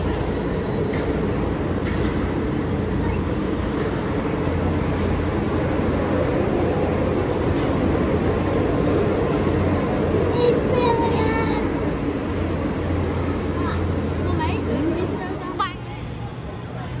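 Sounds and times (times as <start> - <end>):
monorail train running past: 0.0 - 17.0.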